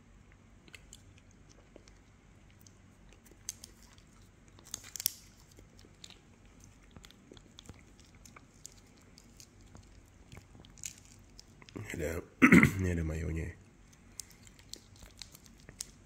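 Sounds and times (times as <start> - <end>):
chewing crunchy fried food: 0.2 - 11.8, 13.6 - 16.0.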